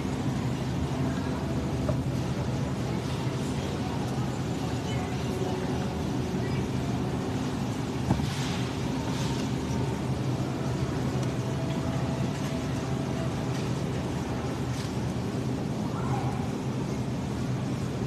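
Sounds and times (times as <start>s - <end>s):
refrigerated display humming: 0.0s - 18.0s.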